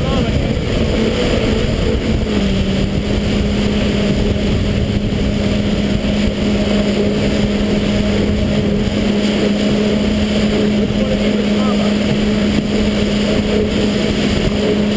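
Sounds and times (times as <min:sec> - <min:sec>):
personal watercraft engine droning: 0:00.0 - 0:14.9
water and wind rushing: 0:00.0 - 0:14.9.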